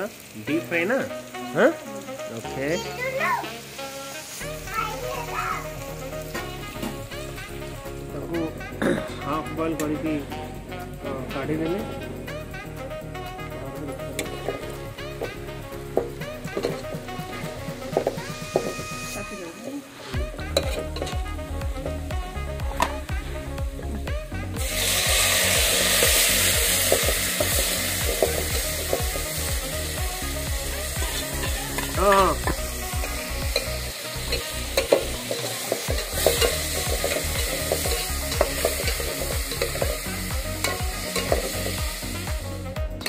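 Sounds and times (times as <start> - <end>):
leaves frying in hot oil: 0.0 - 8.2, 13.7 - 22.1, 24.6 - 43.0.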